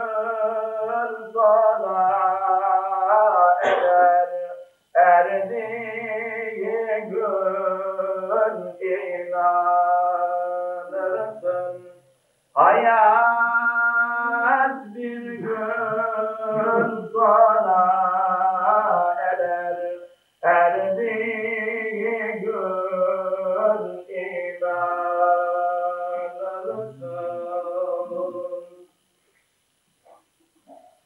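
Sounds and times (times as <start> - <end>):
man chanting unaccompanied: 0.0 - 28.9.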